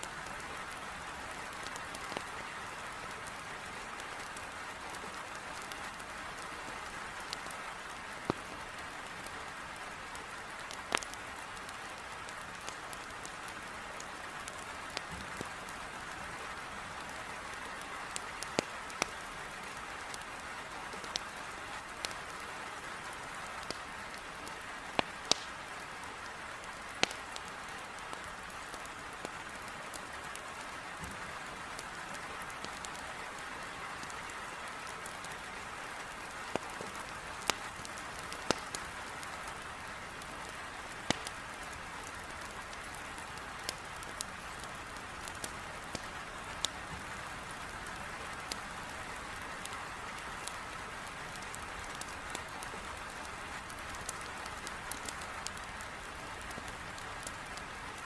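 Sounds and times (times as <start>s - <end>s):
heavy rain on a window: 0.0s - 58.0s
wood fire crackling: 0.0s - 58.0s.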